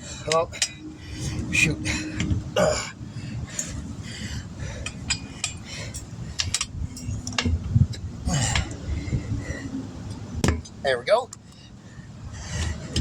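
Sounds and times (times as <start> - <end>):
tire tools clanking on wheel rim: 0.0 - 11.8, 12.4 - 13.0.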